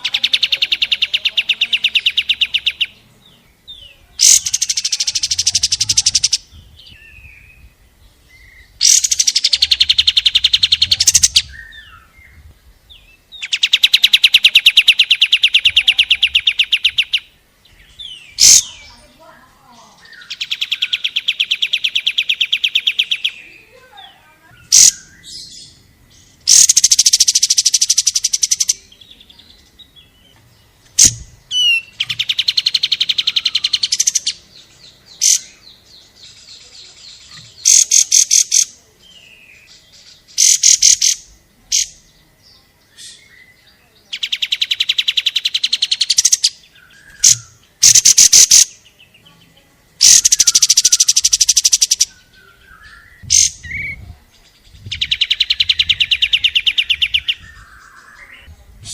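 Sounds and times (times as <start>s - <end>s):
songbird singing rapid high notes: 0.0s - 58.9s.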